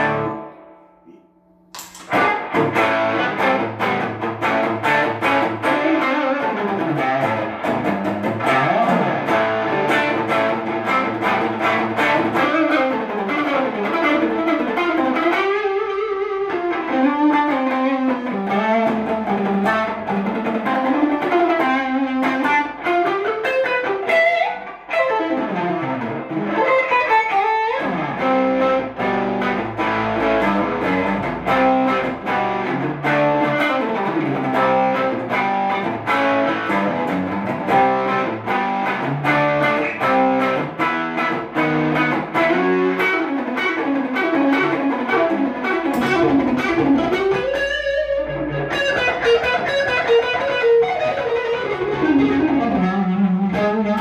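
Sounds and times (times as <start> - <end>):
electric guitar runs: 2.1 - 54.0.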